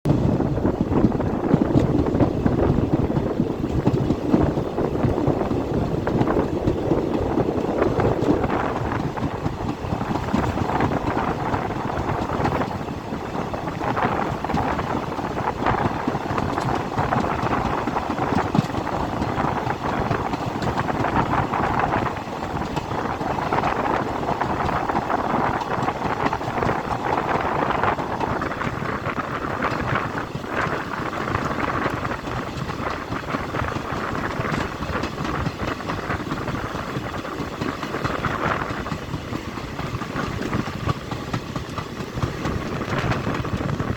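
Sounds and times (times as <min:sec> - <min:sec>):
train wheels on rails: 0:00.0 - 0:43.9.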